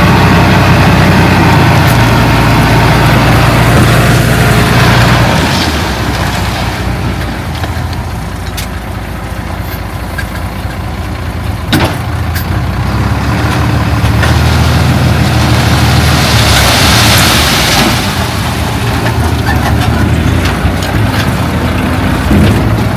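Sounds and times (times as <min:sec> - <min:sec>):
heavy diesel engine running: 0:00.0 - 0:22.9.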